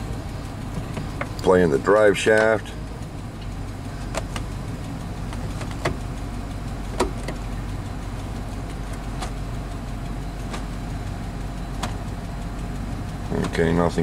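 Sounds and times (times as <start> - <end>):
pickup engine idling: 0.0 - 14.0
transmission clicks and knocks: 0.0 - 14.0.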